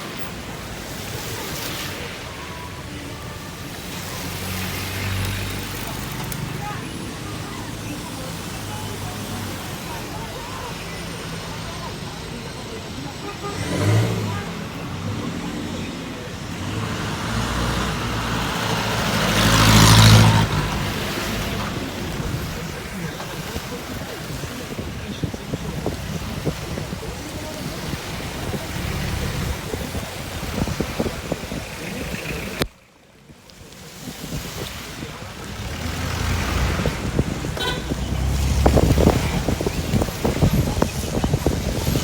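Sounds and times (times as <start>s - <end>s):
vehicle engine humming: 0.0s - 32.8s, 33.4s - 42.0s
road and rain noise: 0.0s - 42.0s.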